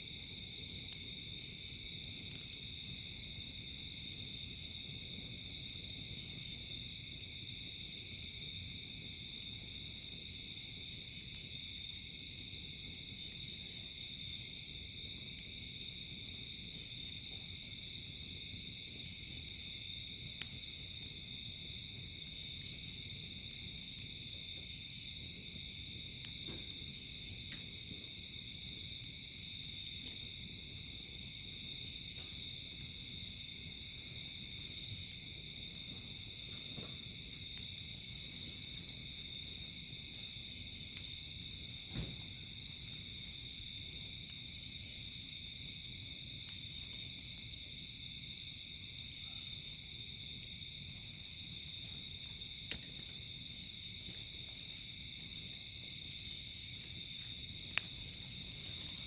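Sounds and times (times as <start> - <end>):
campfire pops: 0.0 - 59.0
crickets and insects calling: 0.0 - 59.0.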